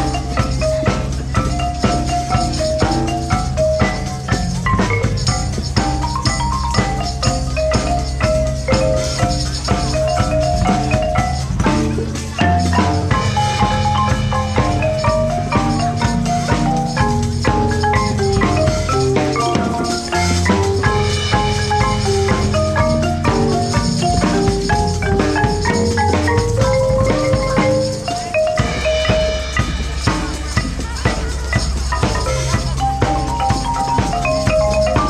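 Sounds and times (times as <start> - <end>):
marimba played fast: 0.0 - 35.0
percussion hits: 0.0 - 35.0.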